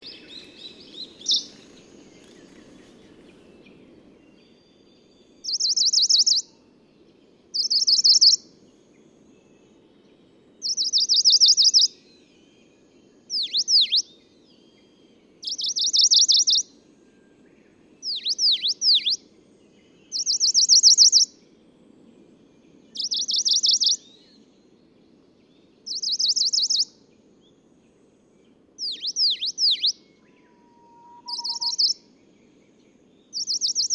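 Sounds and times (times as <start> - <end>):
warbler singing trills: 0.0 - 33.9.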